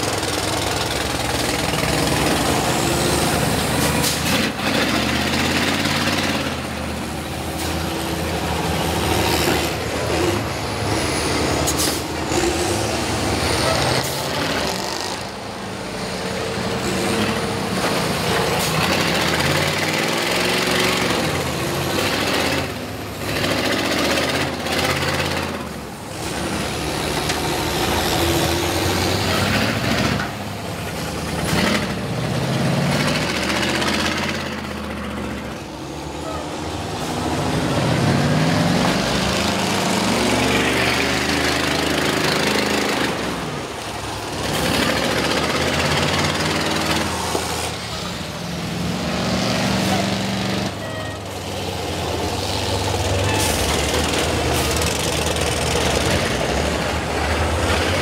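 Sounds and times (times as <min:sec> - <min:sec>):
bus engines revving and straining: 0:00.0 - 0:58.0.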